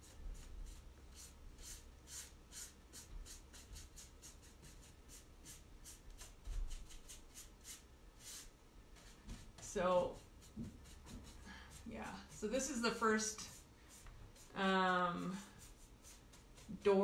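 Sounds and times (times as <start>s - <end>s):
paintbrush swishes on door: 2.1s - 17.0s.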